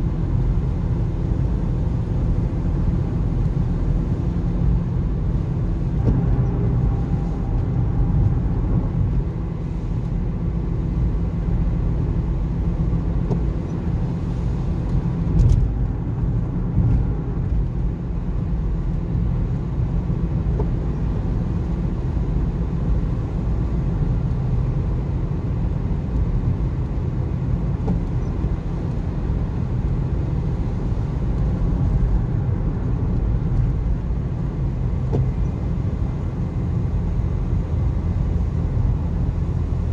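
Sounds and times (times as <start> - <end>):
car cabin road noise: 0.0 - 39.9.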